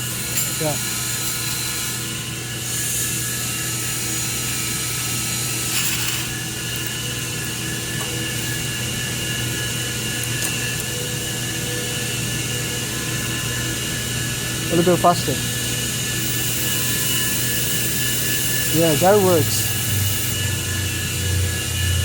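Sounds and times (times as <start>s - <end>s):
laser welder humming and whining: 0.0s - 22.0s.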